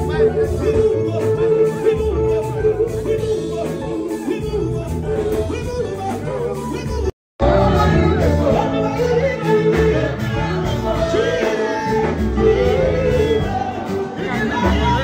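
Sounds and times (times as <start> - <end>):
loud music with singing: 0.0 - 15.0.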